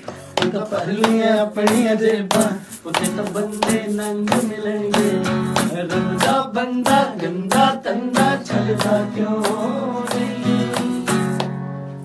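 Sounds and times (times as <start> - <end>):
hand claps: 0.0 - 11.7
acoustic guitar strumming: 0.0 - 12.0.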